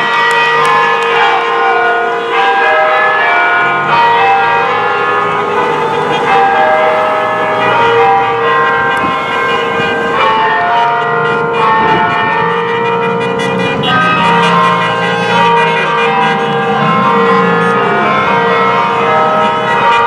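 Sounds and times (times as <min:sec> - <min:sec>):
bells ringing: 0:00.0 - 0:20.0.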